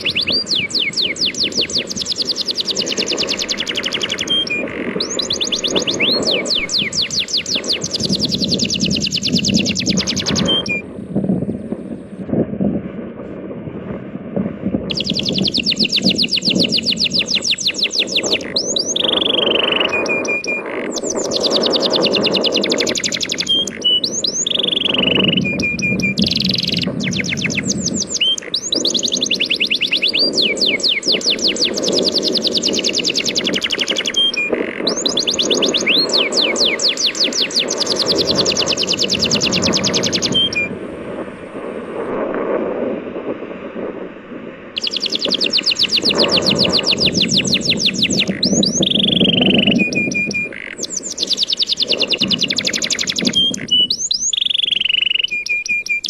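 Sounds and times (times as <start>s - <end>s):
songbird trilling: 0.0s - 10.8s, 14.9s - 40.8s, 44.8s - 56.0s.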